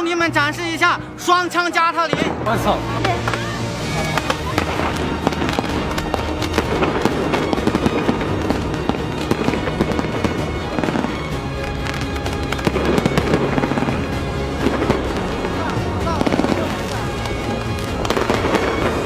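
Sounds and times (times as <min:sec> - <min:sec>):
background music: 0:00.0 - 0:19.0
rapid firework shots and crackles: 0:02.2 - 0:19.0.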